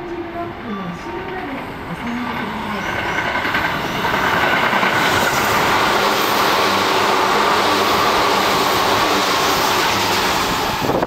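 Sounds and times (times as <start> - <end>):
electric train passing at speed: 0.0 - 11.0.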